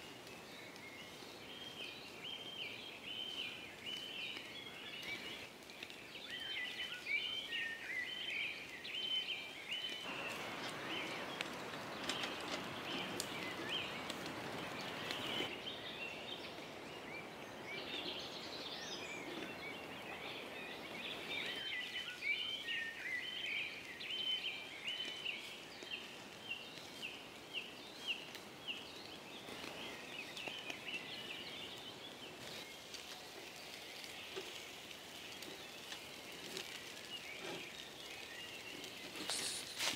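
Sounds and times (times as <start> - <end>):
small birds chirping: 0.0 - 39.9
meat sizzling on charcoal grill: 0.2 - 16.5, 18.8 - 39.9.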